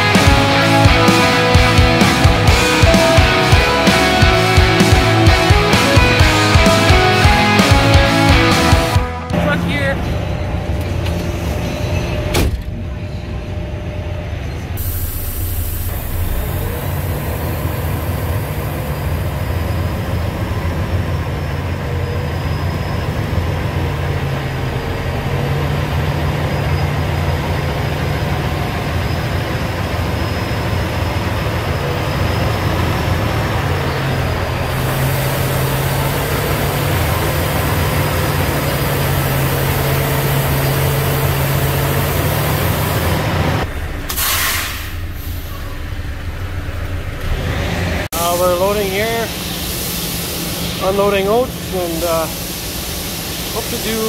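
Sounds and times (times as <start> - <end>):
diesel truck engine running: 0.0 - 54.0
road and cab noise: 0.0 - 54.0.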